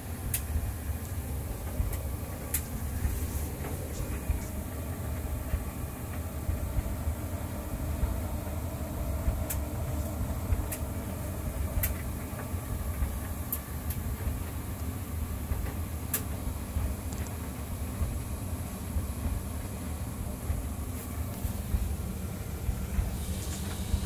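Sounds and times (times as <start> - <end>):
tumble dryer rumbling: 0.0 - 24.0.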